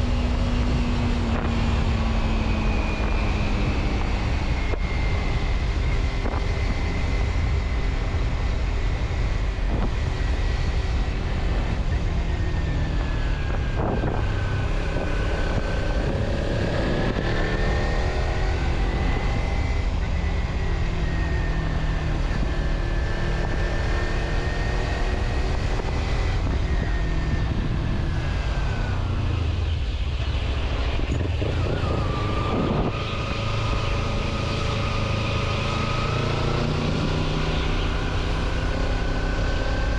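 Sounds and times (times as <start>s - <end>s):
vehicle engine and road rumble: 0.0s - 39.9s
wavering whine: 0.0s - 39.9s.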